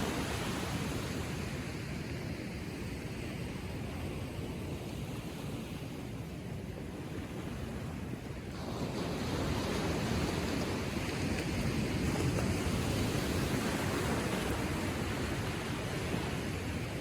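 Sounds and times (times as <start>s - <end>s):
ocean surf washing onto shore: 0.0s - 17.0s.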